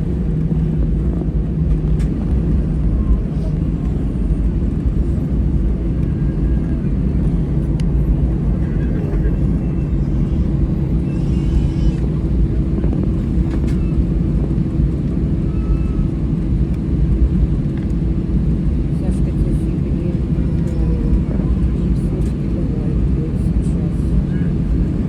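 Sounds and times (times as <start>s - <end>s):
airplane cabin engine rumble: 0.0s - 25.0s
constant hum: 0.0s - 25.0s.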